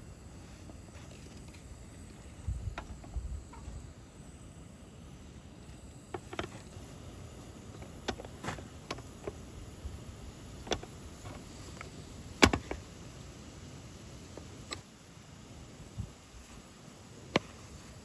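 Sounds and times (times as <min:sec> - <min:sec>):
wood fire crackling: 0:00.0 - 0:14.8.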